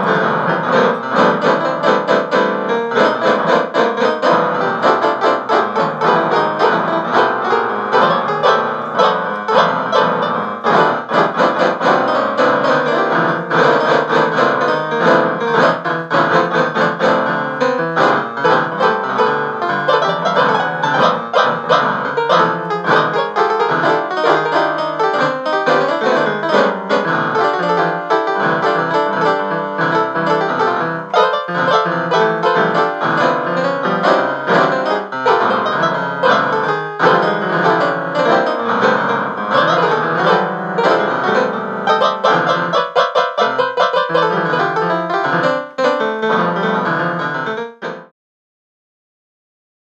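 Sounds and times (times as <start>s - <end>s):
piano music: 0.0s - 48.1s.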